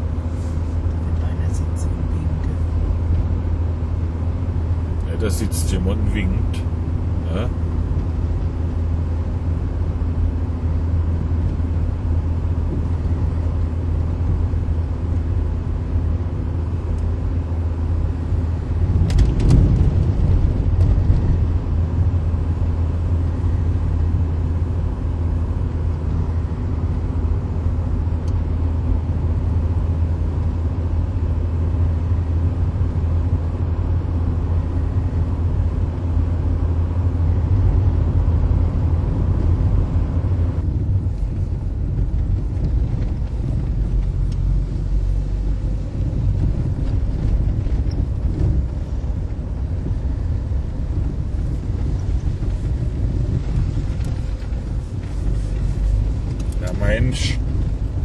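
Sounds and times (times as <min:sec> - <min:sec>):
car engine and tyre hum: 0:00.0 - 0:58.0.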